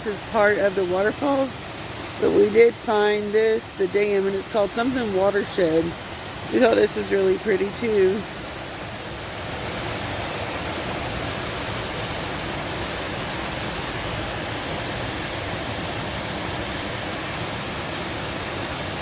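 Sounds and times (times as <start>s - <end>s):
water pouring over a dam: 0.0s - 19.0s.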